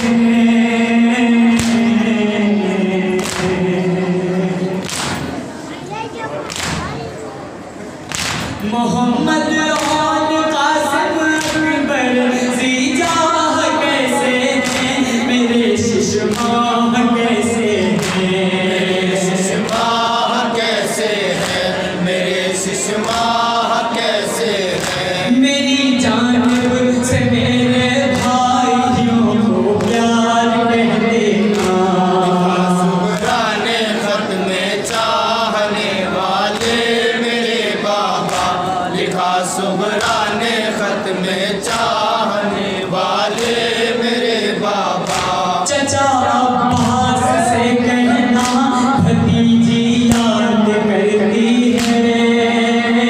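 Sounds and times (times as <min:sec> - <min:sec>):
men chanting in unison: 0:00.0 - 0:05.3, 0:08.7 - 0:53.0.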